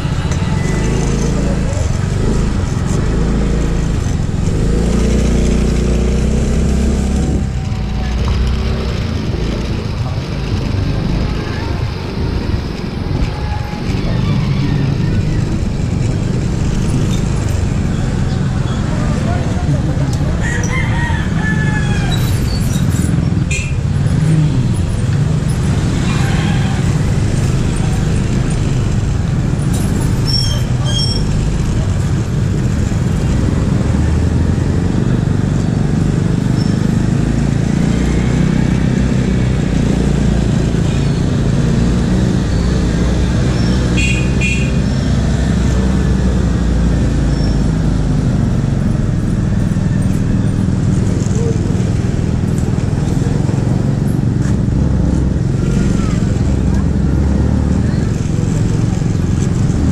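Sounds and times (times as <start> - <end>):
city traffic road noise: 0.0 - 59.9
motorcycle engine rumble: 0.0 - 59.9.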